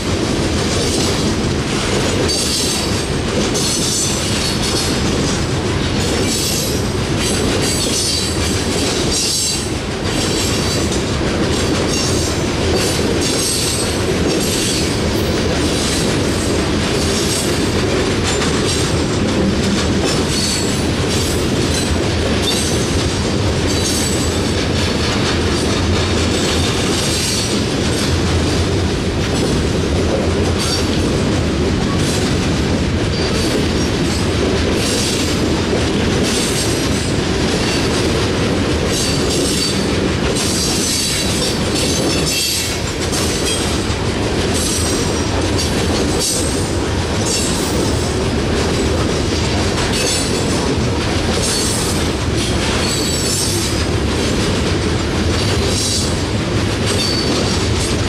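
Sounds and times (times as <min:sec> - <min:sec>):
freight train wheels rumbling on rail: 0:00.0 - 0:58.0
wheels clacking over rail joints: 0:00.0 - 0:58.0.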